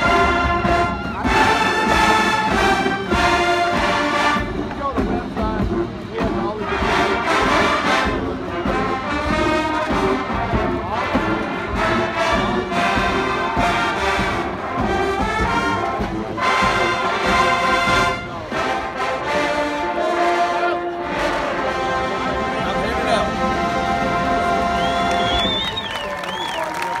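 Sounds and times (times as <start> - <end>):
marching band playing swing: 0.0 - 27.0.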